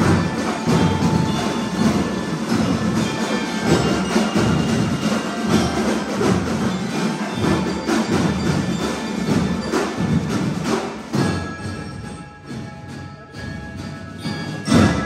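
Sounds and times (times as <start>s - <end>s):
drum beats: 0.0s - 15.0s
ringing bell-like tones: 0.0s - 15.0s.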